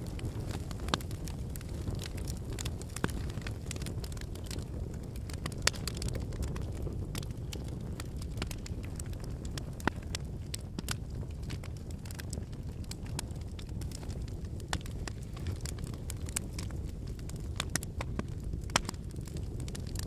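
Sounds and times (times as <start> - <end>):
burning firewood crackling and popping: 0.0 - 20.0
campfire flames rushing: 0.0 - 20.0.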